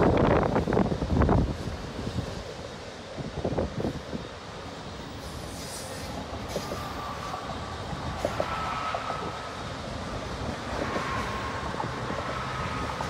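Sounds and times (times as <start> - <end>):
train cars rumbling on rails: 0.0 - 13.0.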